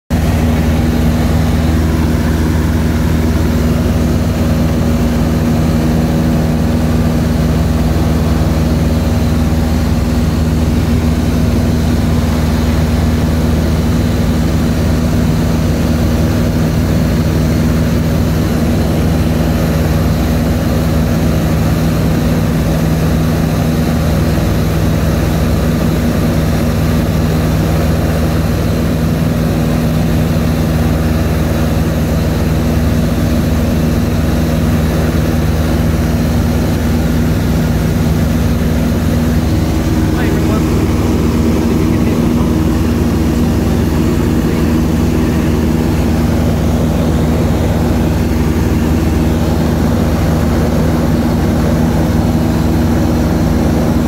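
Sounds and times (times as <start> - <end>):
light aircraft engine in cockpit: 0.1 - 54.0.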